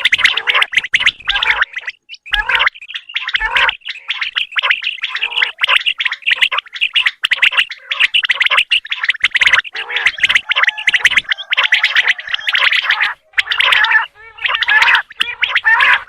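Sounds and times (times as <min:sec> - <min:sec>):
quail rattling chatter: 0:00.0 - 0:16.0.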